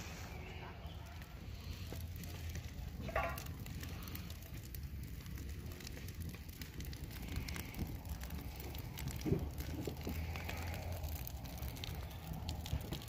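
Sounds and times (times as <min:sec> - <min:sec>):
campfire crackling: 0:00.0 - 0:13.0
low rumble: 0:00.0 - 0:13.0.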